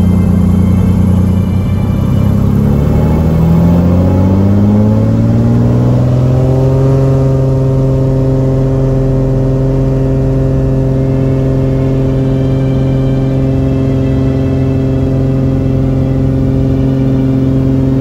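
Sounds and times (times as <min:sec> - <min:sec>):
propeller plane engine: 0:00.0 - 0:18.0.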